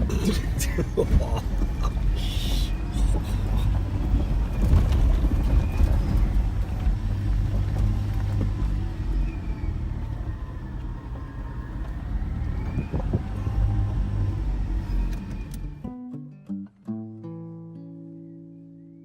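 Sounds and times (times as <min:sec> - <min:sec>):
vehicle knocking over rough ground: 0:00.0 - 0:15.8
vehicle engine rumble: 0:00.0 - 0:15.9.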